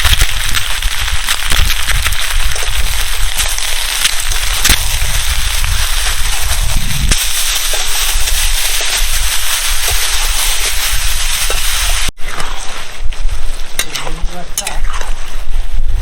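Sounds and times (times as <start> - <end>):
vegetables sizzling in hot oil: 0.0 - 12.9
low rumble: 0.0 - 13.6.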